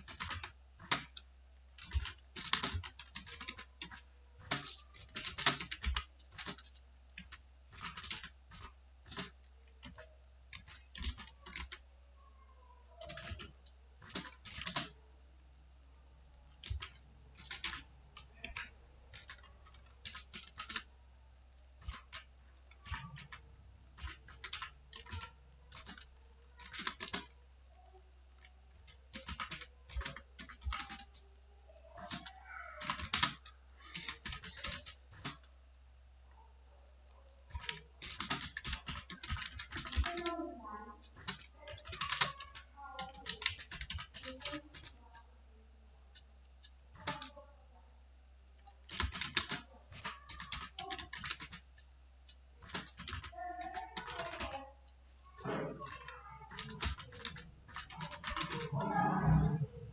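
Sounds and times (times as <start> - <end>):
computer keyboard typing: 0.0 - 11.9, 12.9 - 15.0, 16.4 - 35.5, 37.1 - 45.2, 46.1 - 47.4, 48.6 - 59.9.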